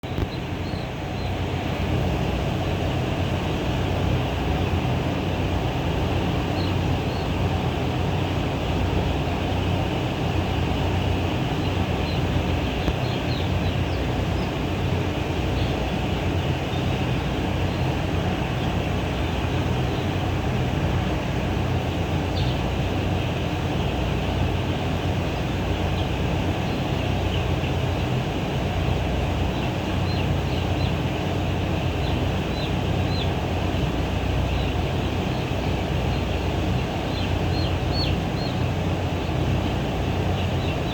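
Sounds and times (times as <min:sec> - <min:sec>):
chicks peeping: 0:00.0 - 0:40.9
low mechanical drone: 0:00.0 - 0:40.9.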